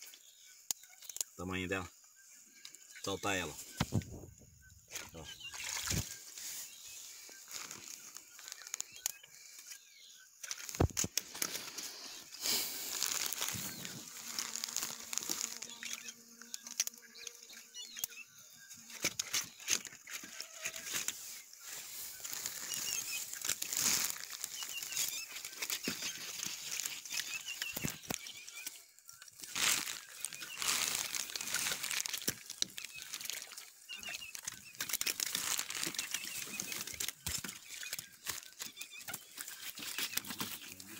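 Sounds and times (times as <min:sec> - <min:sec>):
net mesh rustling and crinkling: 0:05.6 - 0:09.7, 0:10.4 - 0:17.1, 0:18.8 - 0:40.9.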